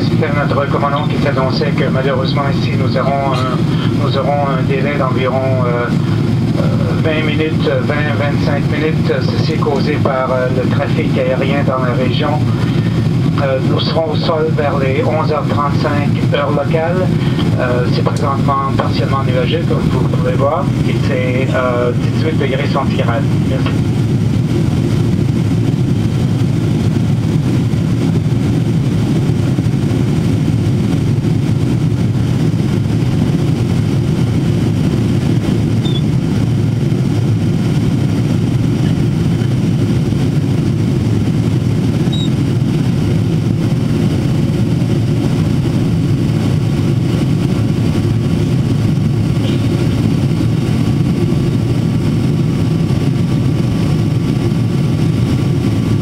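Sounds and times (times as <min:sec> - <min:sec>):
airflow over fuselage: 0:00.0 - 0:56.0
airplane cabin engine roar: 0:00.0 - 0:56.0.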